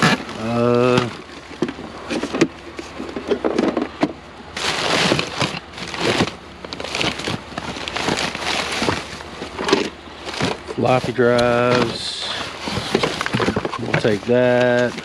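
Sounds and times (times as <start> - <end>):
toys clacking and rustling: 0.0 - 15.0.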